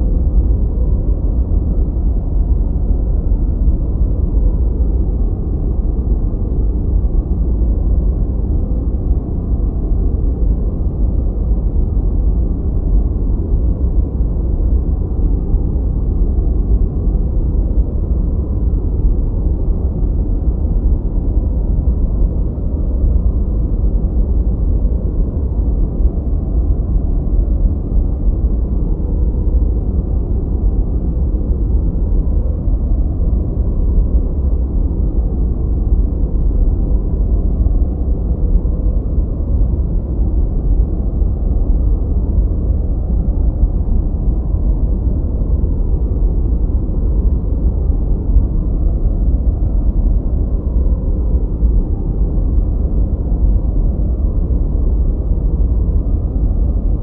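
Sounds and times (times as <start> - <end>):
deep muffled white noise: 0.0 - 57.0.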